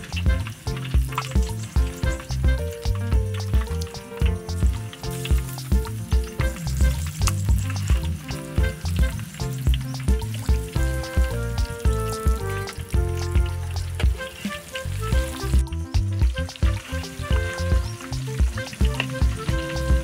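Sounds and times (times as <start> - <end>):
background music with beat: 0.0 - 20.0
oil sizzling and crackling: 0.0 - 20.0.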